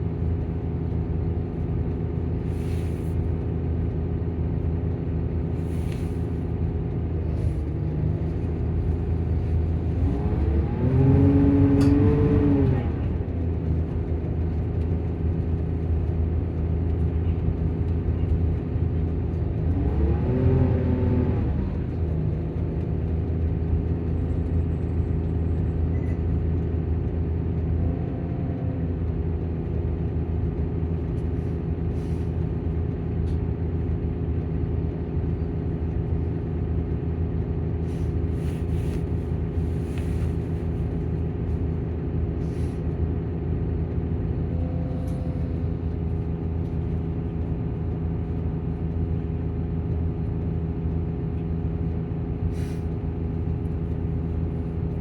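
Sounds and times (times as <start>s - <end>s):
bus engine and cooling fan hum: 0.0s - 55.0s.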